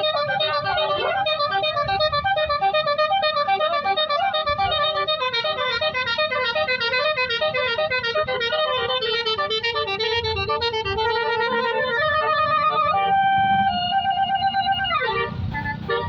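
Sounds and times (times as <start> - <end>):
keyboard melody: 0.0 - 16.0.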